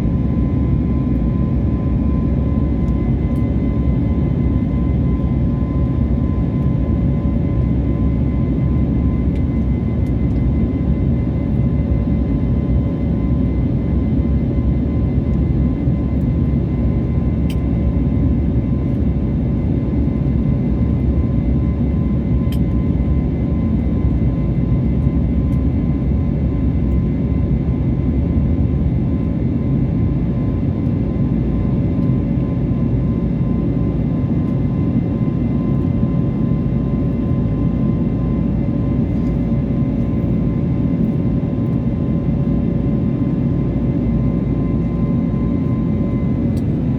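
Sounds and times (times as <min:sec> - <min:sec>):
jet airliner drone: 0:00.0 - 0:46.9.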